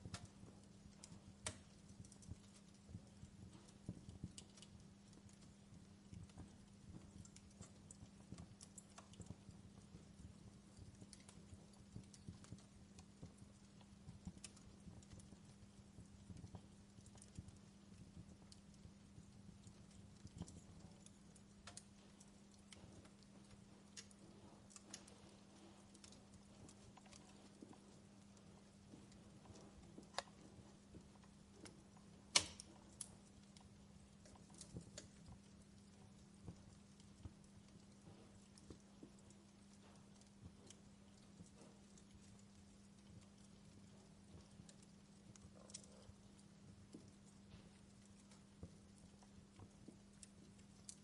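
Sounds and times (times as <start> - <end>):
fireplace crackle: 0.0 - 51.0
low steady hum: 0.0 - 51.0.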